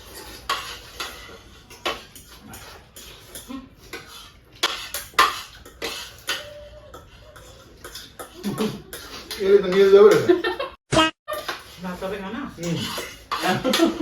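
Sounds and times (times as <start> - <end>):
utensils clinking against bowls: 0.0 - 10.6, 11.3 - 14.0.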